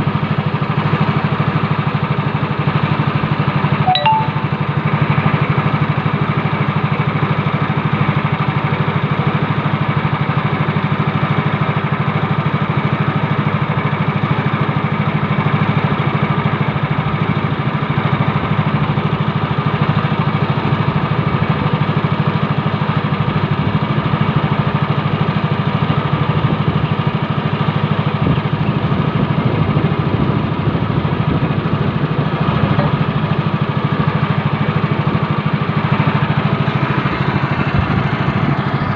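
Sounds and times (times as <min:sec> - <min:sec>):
small engine running steadily: 0:00.0 - 0:38.9.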